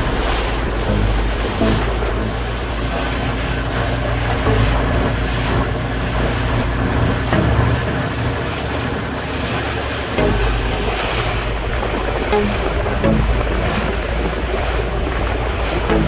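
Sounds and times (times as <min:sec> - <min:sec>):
boat engine drone: 0:00.0 - 0:16.0
water rushing: 0:00.0 - 0:16.0
wind buffeting microphone: 0:00.0 - 0:16.0.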